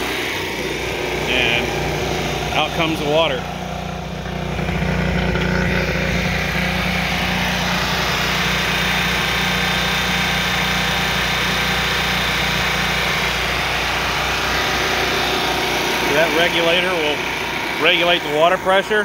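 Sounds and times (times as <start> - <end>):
generator engine humming: 0.0 - 19.0.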